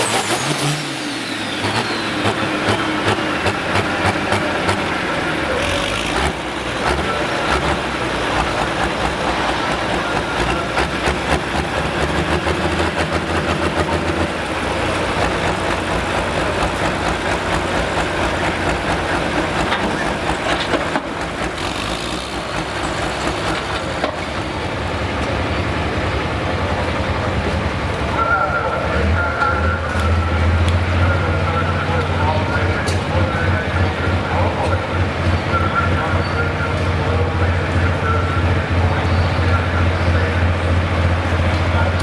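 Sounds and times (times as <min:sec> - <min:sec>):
diesel tractor idling loudly: 0:00.0 - 0:42.0.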